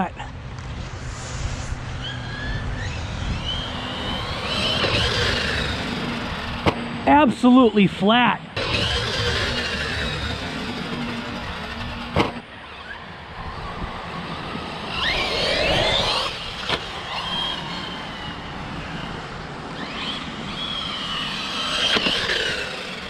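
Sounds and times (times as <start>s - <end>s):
electric motor whining: 1.4s - 7.0s, 8.6s - 23.0s.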